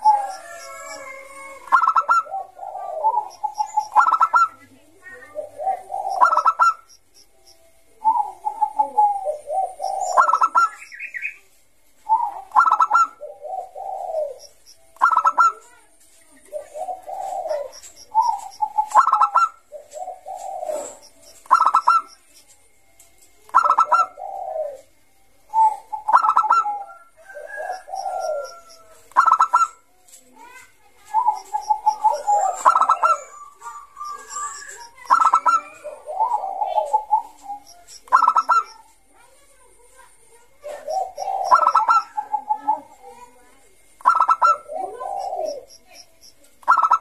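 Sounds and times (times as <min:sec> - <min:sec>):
dove cooing: 0:00.0 - 0:07.0, 0:07.9 - 0:11.4, 0:12.0 - 0:15.8, 0:16.4 - 0:22.3, 0:23.5 - 0:47.0.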